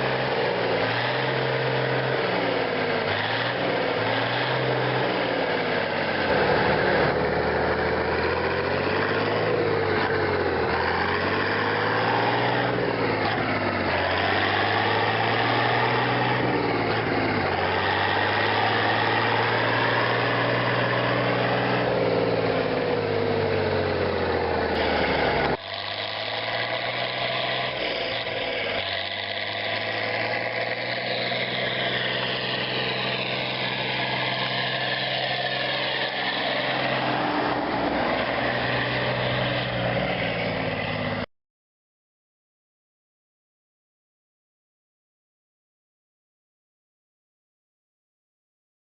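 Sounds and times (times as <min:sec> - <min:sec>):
tractor diesel engine running: 0:00.0 - 0:41.3.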